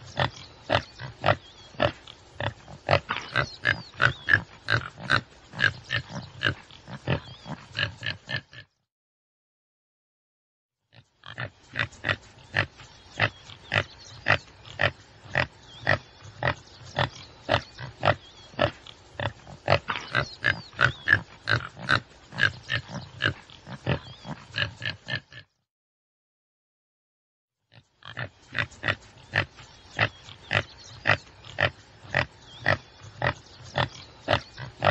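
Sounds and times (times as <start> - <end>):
antelope grunting: 0.0 - 8.7, 11.0 - 25.5, 27.8 - 34.9.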